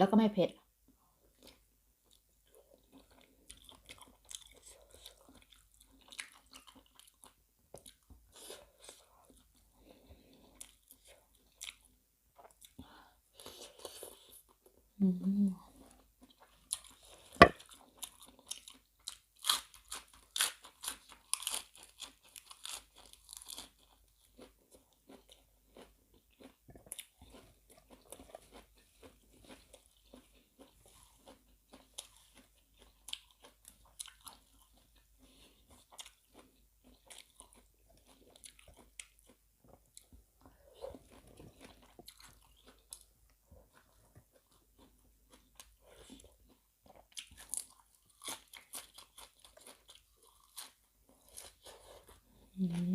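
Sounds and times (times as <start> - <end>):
quiet chewing: 1.2 - 14.7, 15.6 - 52.9.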